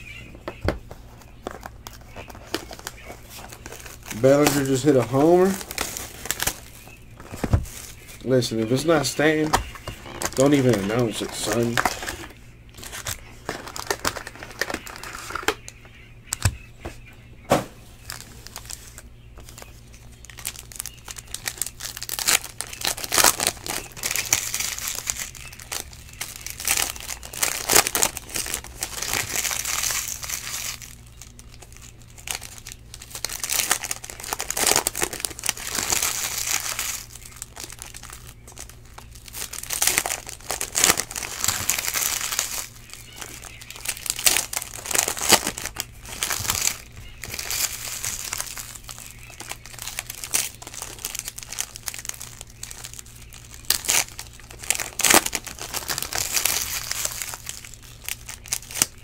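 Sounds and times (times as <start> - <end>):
foil wrappers crinkling and tearing: 0.0 - 16.5, 18.0 - 59.0
steady low hum: 0.0 - 59.0.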